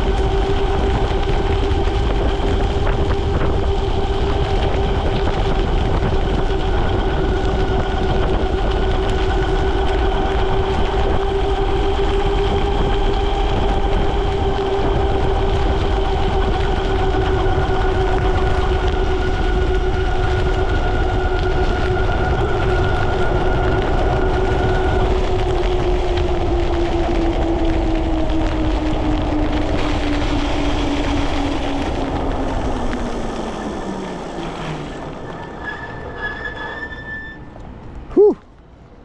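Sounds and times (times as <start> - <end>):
electric bike motor whining: 0.0 - 37.7
rush of wind: 0.0 - 39.0
tyres on wet road: 0.0 - 39.0.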